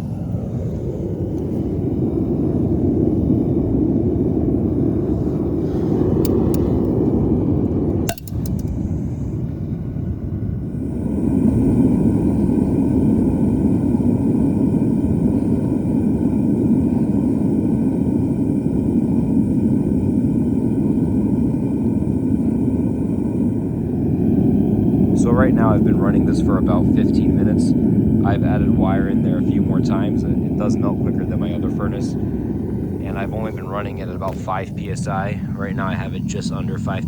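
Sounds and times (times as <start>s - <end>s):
gas burner flame roar: 0.0s - 37.0s.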